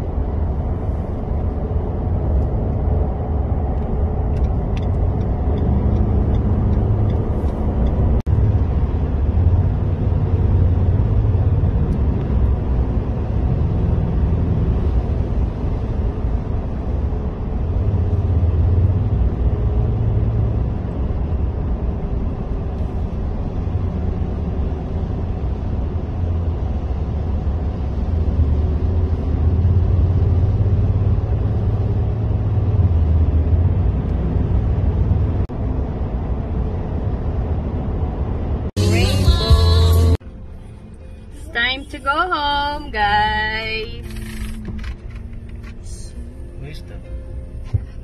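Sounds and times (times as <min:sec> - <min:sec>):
car cabin road noise: 0:00.0 - 0:48.0.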